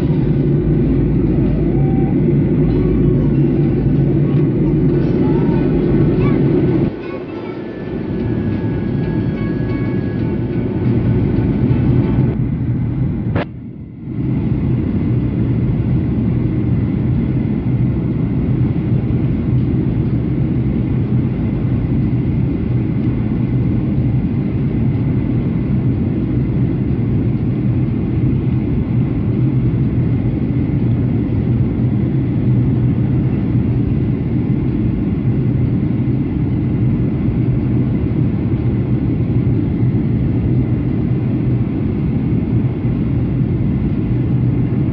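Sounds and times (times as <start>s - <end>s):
airplane cabin drone: 0.0s - 44.9s.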